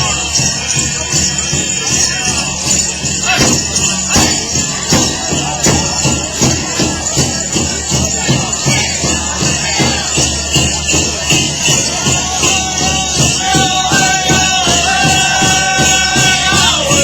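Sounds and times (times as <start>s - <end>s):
big drum beating: 0.0s - 17.0s
group singing: 0.0s - 17.0s
metal jingles shaking: 0.0s - 17.0s.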